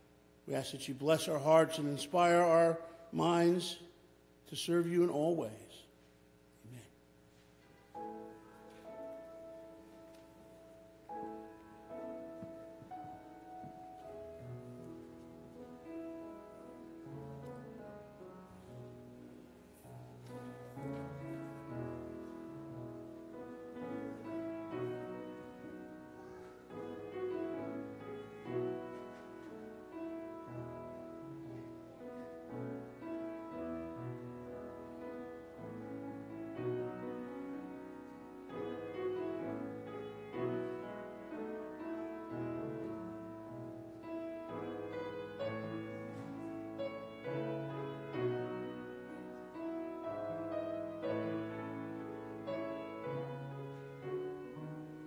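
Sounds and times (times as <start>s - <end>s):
slow piano music: 7.6s - 55.0s.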